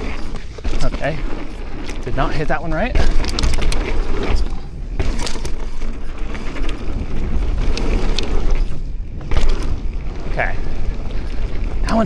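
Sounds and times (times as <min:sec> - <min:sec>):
bike rattling clicks: 0:00.0 - 0:12.0
bike tyres rolling on dirt: 0:00.0 - 0:12.0
wind buffeting microphone: 0:00.0 - 0:12.0.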